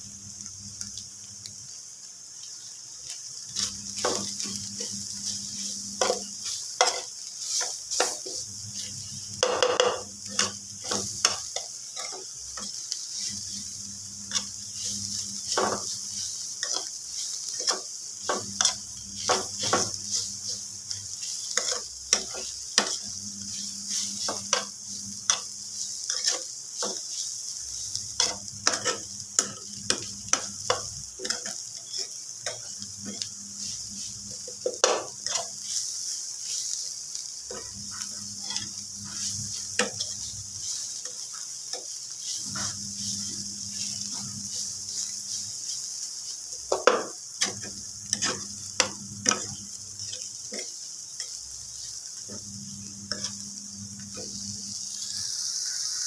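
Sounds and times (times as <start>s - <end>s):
food sizzling in a frying pan: 0.0s - 56.0s
spoon scraping a pan: 3.5s - 36.9s, 37.5s - 45.9s, 46.5s - 52.5s, 53.1s - 54.4s.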